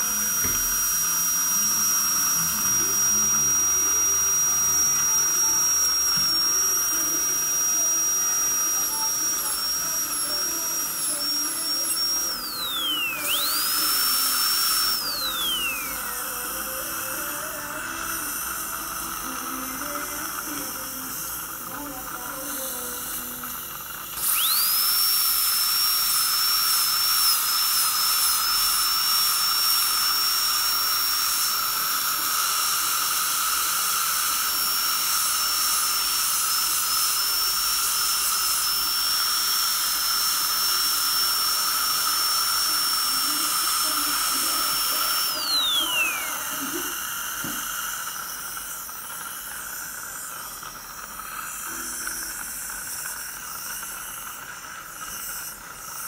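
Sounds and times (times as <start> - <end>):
dental drill whining: 0.0 - 56.0
saliva ejector hissing: 0.0 - 56.0.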